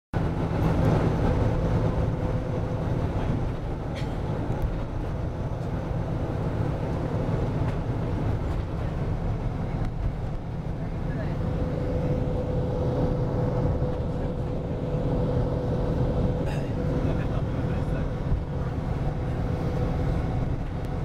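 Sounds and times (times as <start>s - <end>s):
bus engine and road rumble: 0.1s - 21.0s.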